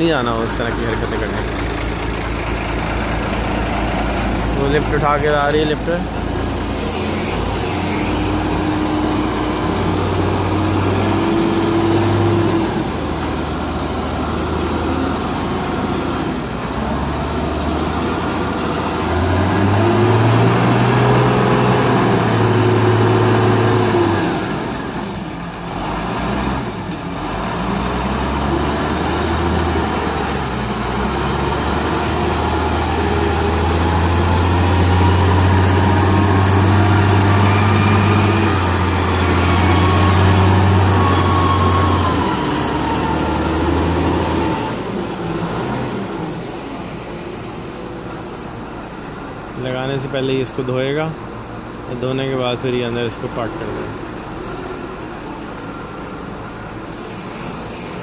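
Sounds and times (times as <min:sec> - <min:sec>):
forklift engine under load: 0:00.0 - 0:58.0.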